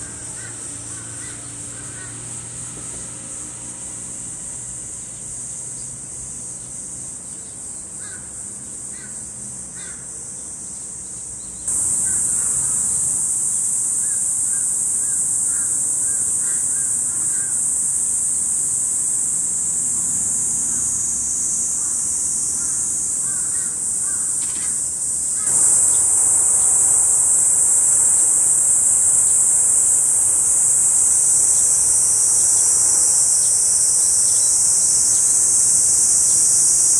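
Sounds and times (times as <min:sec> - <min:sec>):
cicadas buzzing in chorus: 0:00.0 - 0:36.9.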